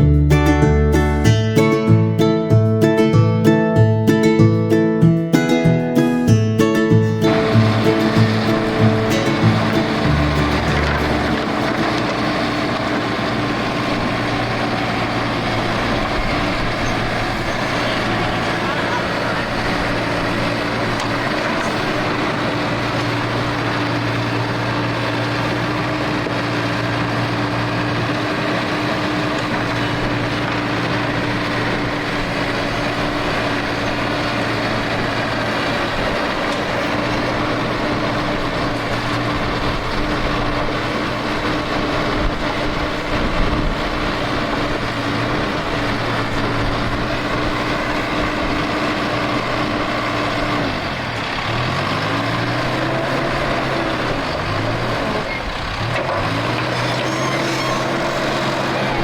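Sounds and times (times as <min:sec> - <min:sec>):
heavy machine engine droning: 0:00.0 - 0:59.0.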